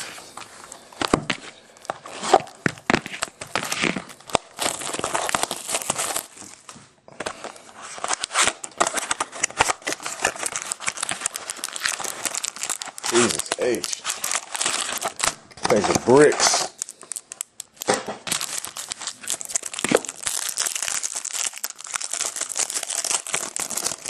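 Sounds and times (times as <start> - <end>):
plastic wrap crackling: 0.0 - 24.0.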